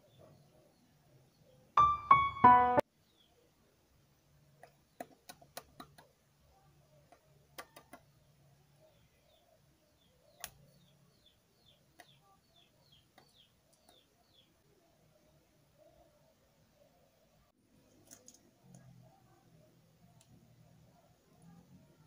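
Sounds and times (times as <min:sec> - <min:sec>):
faint small-bird chirps: 0:00.0 - 0:02.0, 0:02.9 - 0:03.7, 0:04.6 - 0:22.0.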